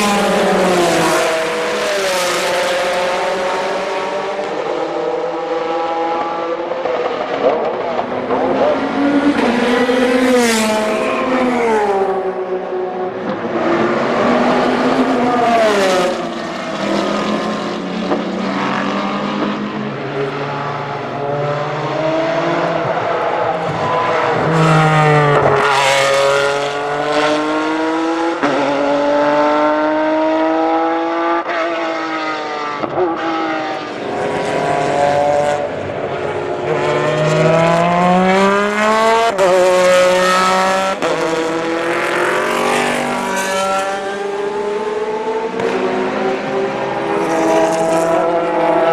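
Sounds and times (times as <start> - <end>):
racing car engine at full throttle: 0.0 - 48.9.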